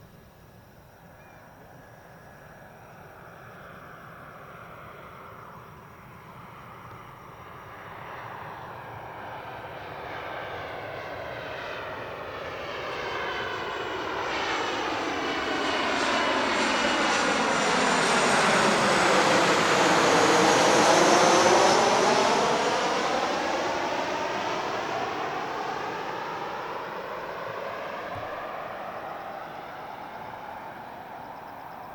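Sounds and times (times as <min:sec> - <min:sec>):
jet airliner passing overhead: 0:01.4 - 0:31.9.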